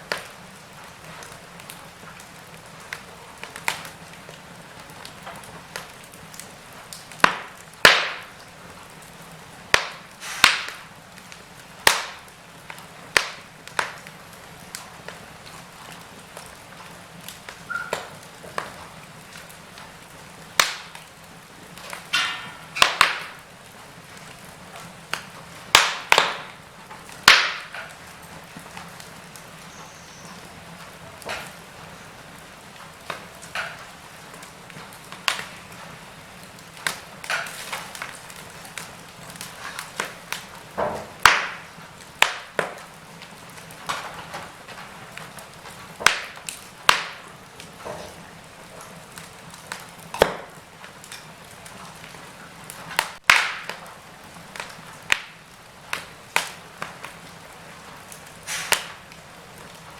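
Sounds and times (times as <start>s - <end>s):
fire popping and snapping: 0.0s - 59.9s
wood fire crackling: 0.0s - 59.9s.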